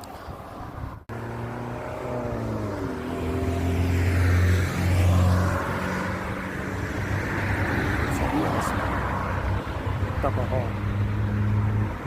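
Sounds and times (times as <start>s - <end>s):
motorway traffic passing: 0.0s - 12.0s.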